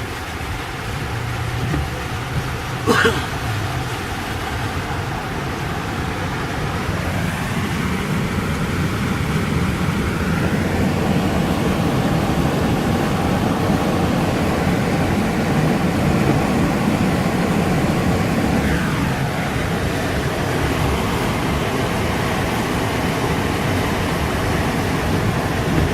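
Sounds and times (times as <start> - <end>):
car driving through water: 0.0 - 25.9.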